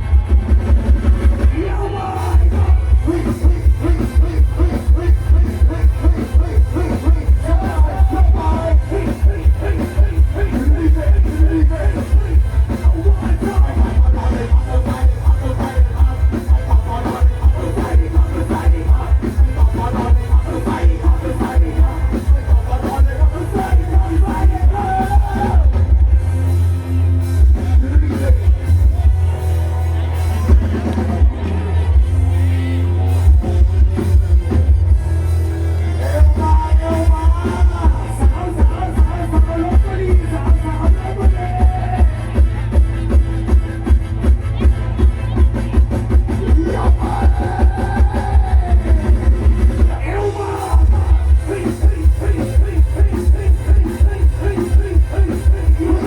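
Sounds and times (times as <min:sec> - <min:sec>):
loud dance music from speakers: 0:00.0 - 0:26.4, 0:27.4 - 0:56.0
heavy thumping bass beat: 0:00.0 - 0:56.0.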